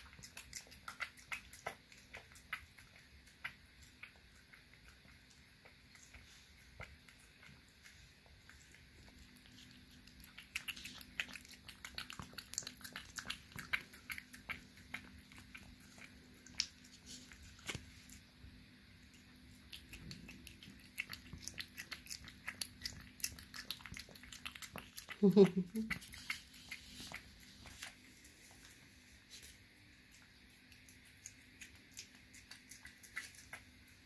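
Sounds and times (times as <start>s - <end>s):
kitten licking wet smacking: 0.0s - 34.0s.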